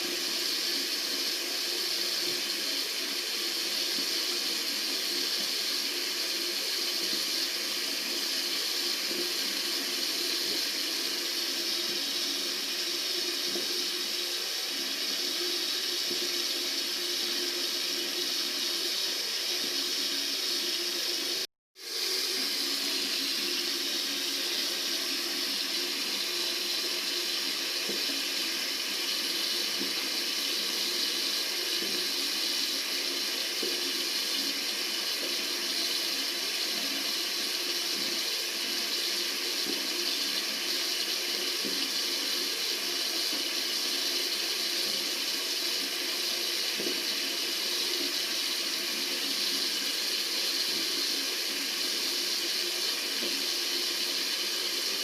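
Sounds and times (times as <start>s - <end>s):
tap water running into sink: 0.0s - 55.0s.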